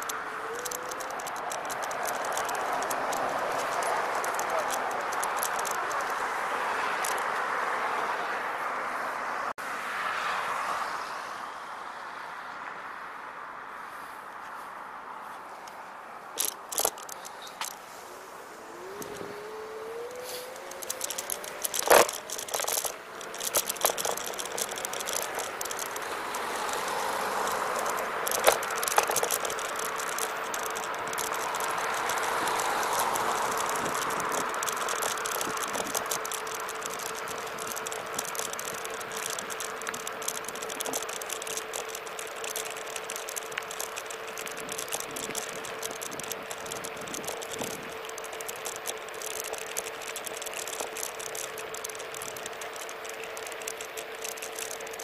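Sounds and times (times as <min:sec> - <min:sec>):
scooter deck rattling: 0:00.0 - 0:07.4, 0:16.4 - 0:17.8, 0:18.6 - 0:55.0
tyre and road noise: 0:00.0 - 0:55.0.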